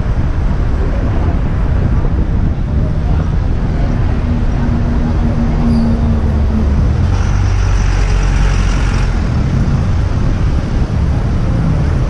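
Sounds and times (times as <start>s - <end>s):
rumble of passing cars: 0.0s - 12.0s.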